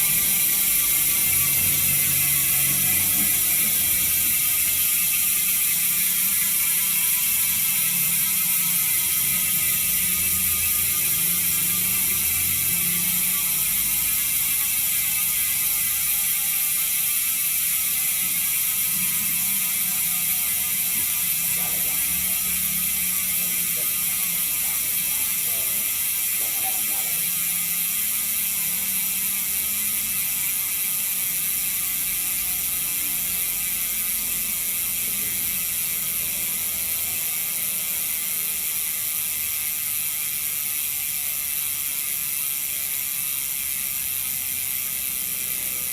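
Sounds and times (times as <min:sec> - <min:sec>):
bicycle hub freewheel ticking: 0:00.0 - 0:45.9.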